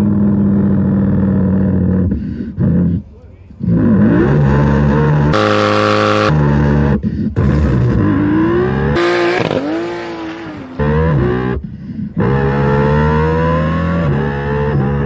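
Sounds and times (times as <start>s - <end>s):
man imitating car engine: 0.0s - 15.0s.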